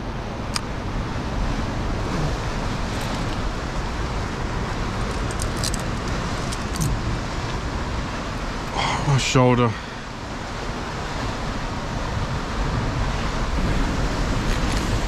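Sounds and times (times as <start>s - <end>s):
wind on microphone: 0.0s - 8.7s, 9.8s - 15.0s
ocean surf breaking: 0.0s - 15.0s.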